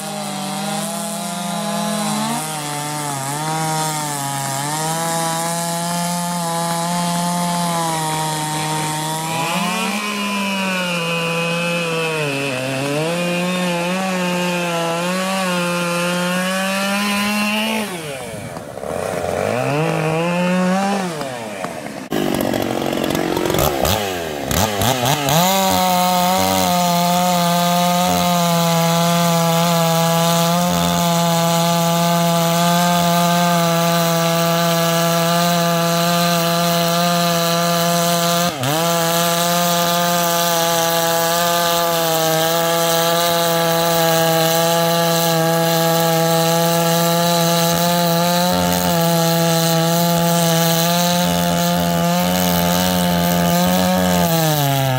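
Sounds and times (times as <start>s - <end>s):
chainsaw revving: 0.0s - 54.9s.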